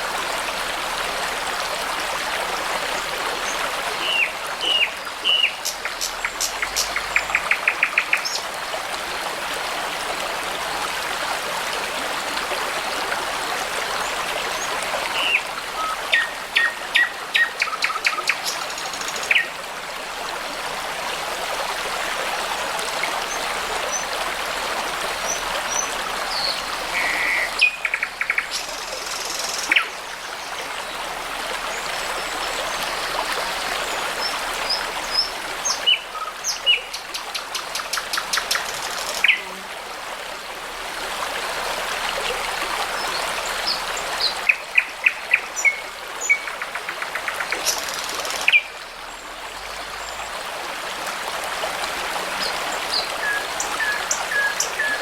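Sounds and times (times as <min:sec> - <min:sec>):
babbling brook: 0:00.0 - 0:55.0.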